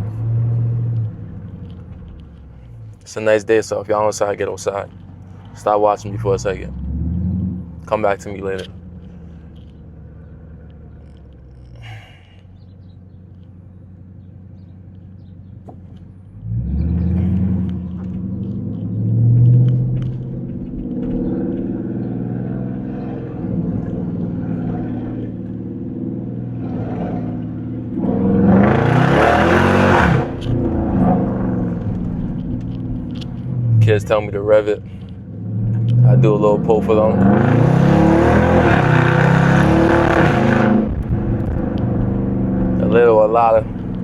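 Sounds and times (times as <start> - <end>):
car engine accelerating: 0.0 - 44.0.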